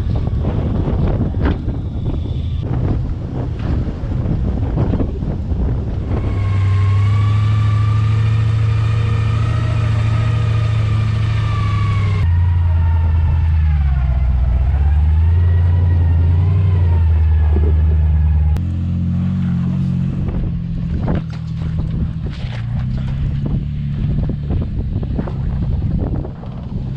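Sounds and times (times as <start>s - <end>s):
off-road vehicle engine under load: 0.0s - 26.9s.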